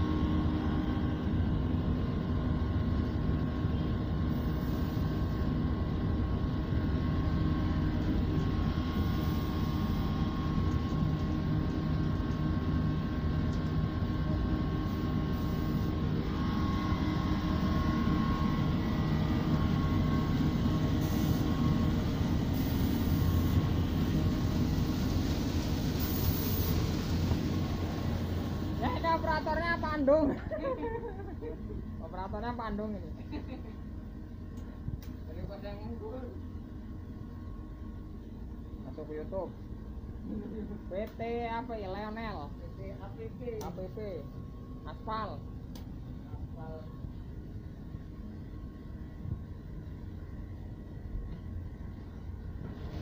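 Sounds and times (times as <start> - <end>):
low mechanical drone with tones: 0.0 - 53.0.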